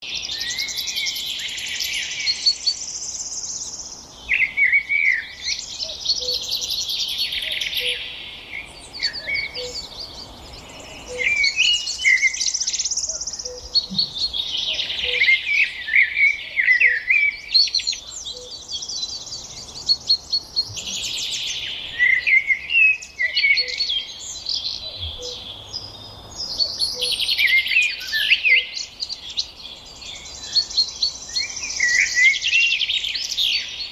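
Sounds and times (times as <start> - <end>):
songbirds chirping and twittering: 0.0 - 33.9.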